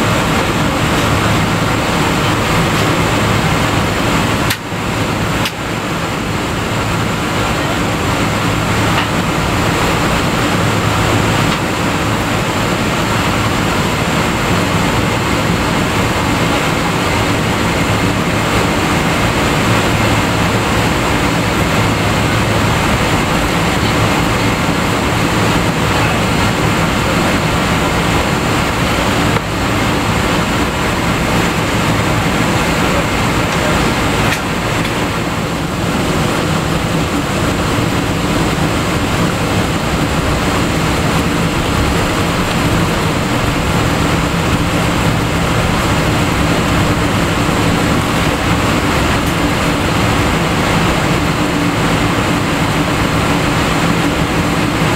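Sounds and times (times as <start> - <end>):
aircraft cabin engine hum: 0.0 - 54.9.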